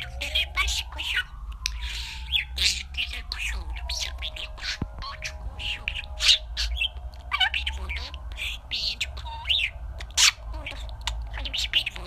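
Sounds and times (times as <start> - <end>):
budgerigar chirping: 0.0 - 12.0.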